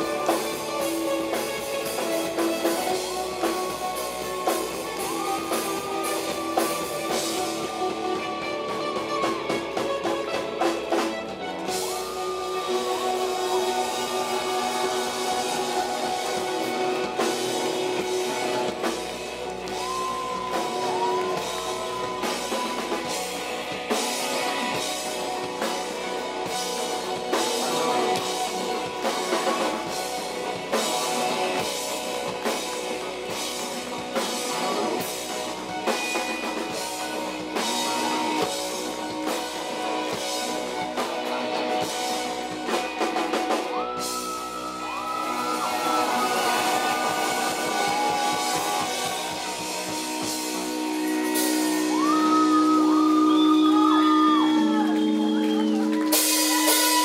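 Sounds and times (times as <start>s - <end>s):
rock music: 0.0s - 57.0s.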